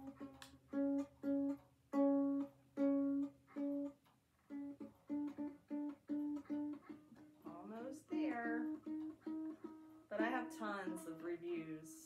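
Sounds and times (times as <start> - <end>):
ukulele string plucked: 0.0 - 11.9.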